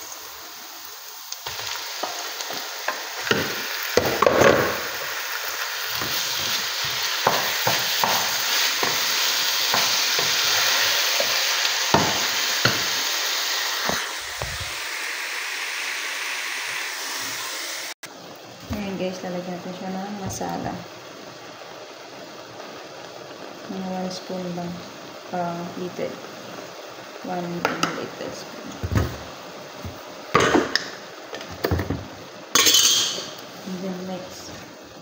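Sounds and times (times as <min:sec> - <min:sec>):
chicken sizzling in a frying pan: 0:00.0 - 0:35.0.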